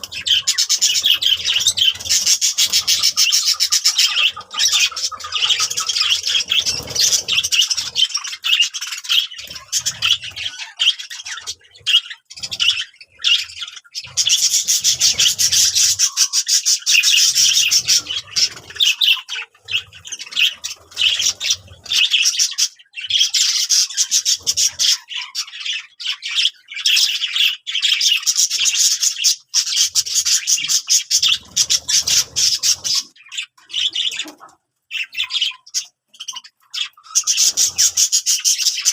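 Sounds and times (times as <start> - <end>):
budgerigars chattering and warbling: 0.0 - 38.9.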